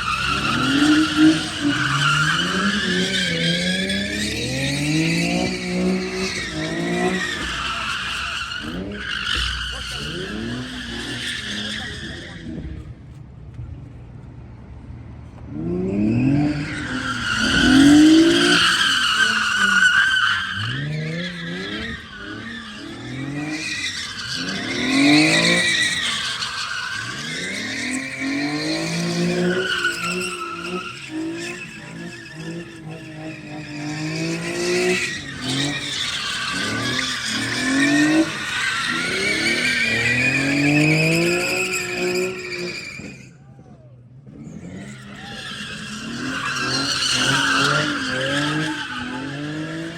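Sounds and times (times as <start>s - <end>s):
car engine revving: 0.0s - 13.0s, 15.4s - 43.2s, 44.2s - 49.9s
tire squealing: 0.0s - 49.9s.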